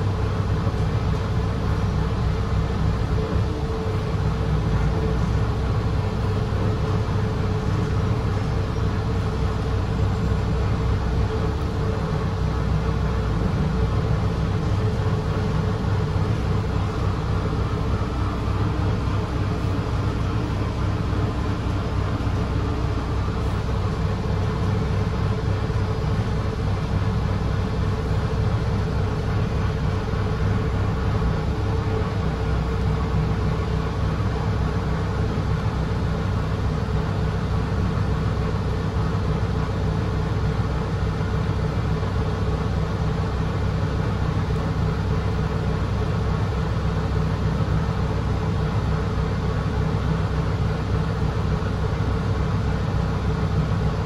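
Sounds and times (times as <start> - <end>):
bus engine and running noise: 0.0 - 54.0.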